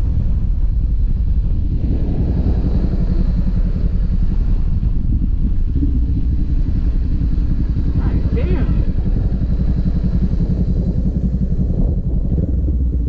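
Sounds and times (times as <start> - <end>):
motorcycle engine drone: 0.0 - 13.0
wind and road noise: 0.0 - 13.0.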